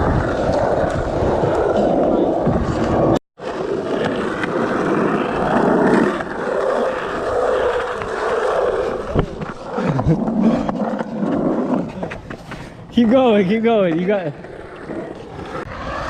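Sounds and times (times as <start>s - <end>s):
skateboard wheels rolling: 0.0s - 16.0s.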